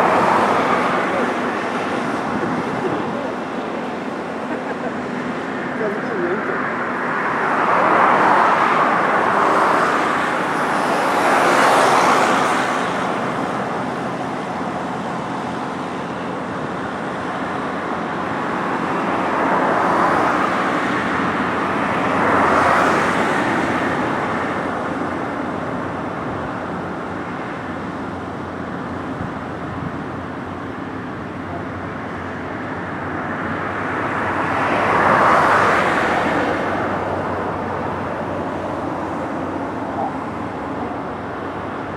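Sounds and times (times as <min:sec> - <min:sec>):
road traffic on a bridge: 0:00.0 - 0:41.9
vehicles passing close: 0:00.0 - 0:41.9.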